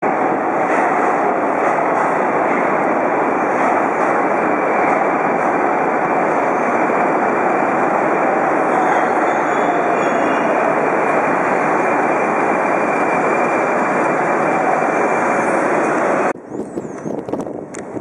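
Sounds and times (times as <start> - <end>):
metro train running: 0.0 - 18.0.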